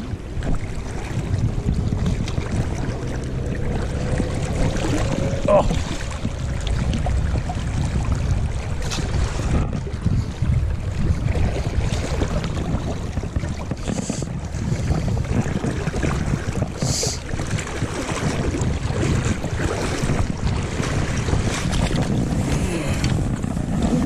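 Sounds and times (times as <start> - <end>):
shallow river water rushing: 0.0 - 24.0
wind buffeting microphone: 0.0 - 24.0.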